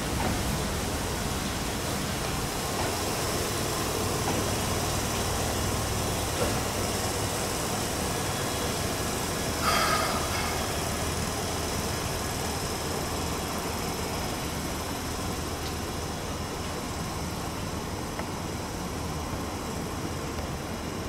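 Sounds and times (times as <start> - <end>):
electric train running: 0.0 - 21.0.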